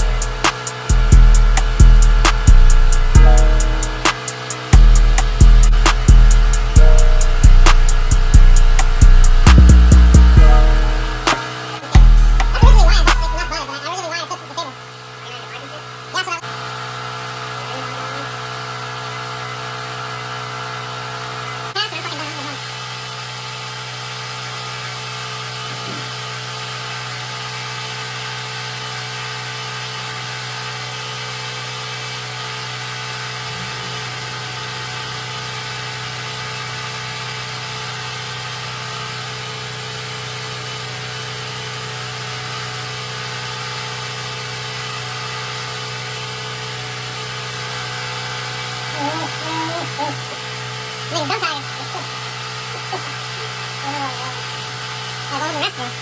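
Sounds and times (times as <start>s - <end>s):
machine motor humming: 0.0s - 56.0s.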